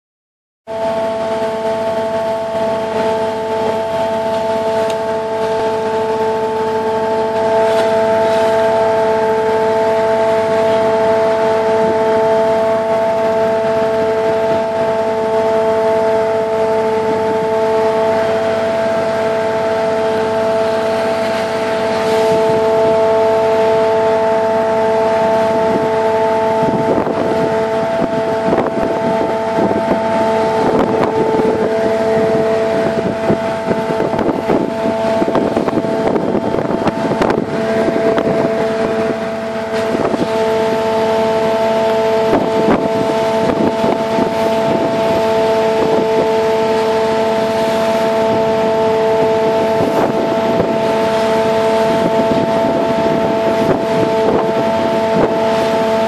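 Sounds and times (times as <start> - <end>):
boat engine droning: 0.6 - 56.0
water rushing from wake: 0.7 - 56.0
wind buffeting microphone: 0.9 - 56.0.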